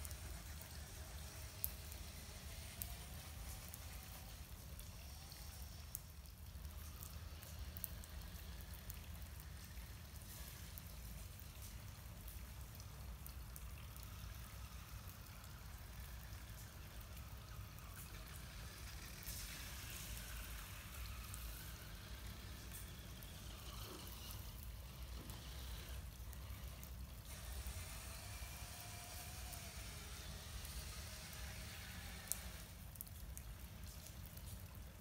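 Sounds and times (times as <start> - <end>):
light rain falling: 0.0 - 35.0
raindrop ticks: 0.0 - 35.0.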